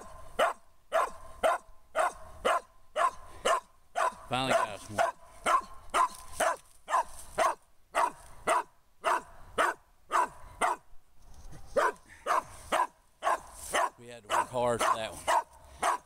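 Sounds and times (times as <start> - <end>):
dog barking sharply: 0.4 - 10.8, 11.8 - 16.0.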